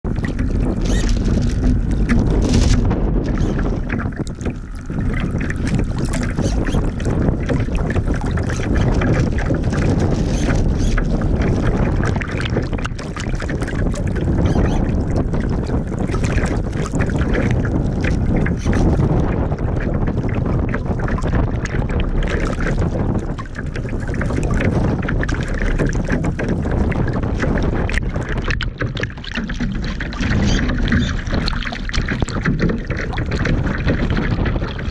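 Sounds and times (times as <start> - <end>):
water rushing and splashing: 0.0 - 34.9
wind buffeting microphone: 0.0 - 34.9.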